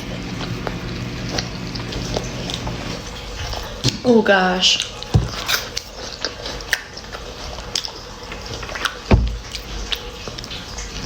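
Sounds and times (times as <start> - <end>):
wet chewing and lip-smacking: 0.0 - 4.0, 4.7 - 11.0.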